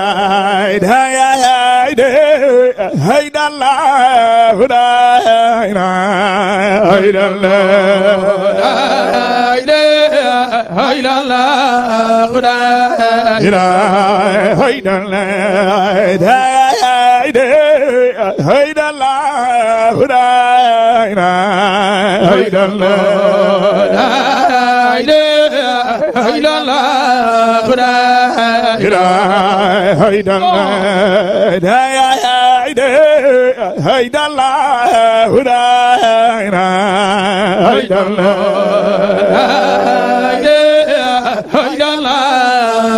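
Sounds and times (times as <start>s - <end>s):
man chanting with vibrato: 0.0s - 42.9s.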